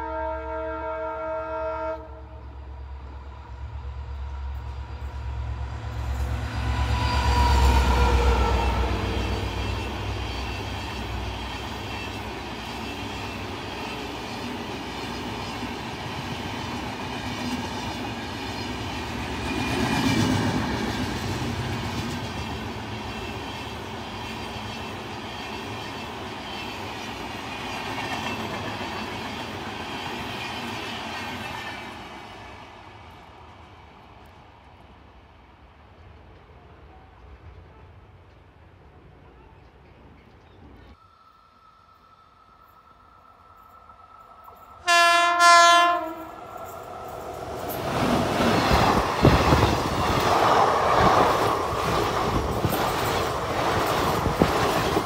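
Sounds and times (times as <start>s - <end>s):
train coaches rumbling past: 0.0s - 55.0s.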